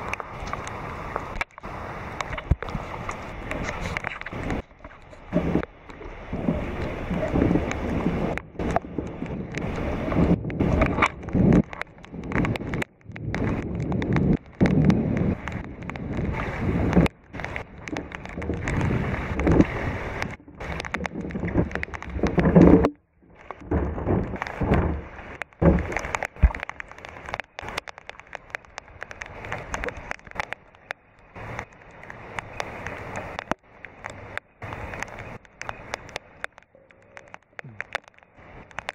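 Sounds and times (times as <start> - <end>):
rain drops on microphone: 0.0 - 38.9.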